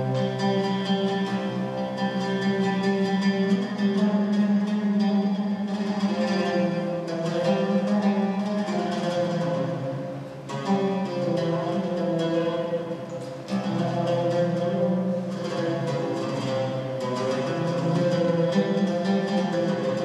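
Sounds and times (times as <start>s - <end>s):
oud plucked melody: 0.0s - 20.0s.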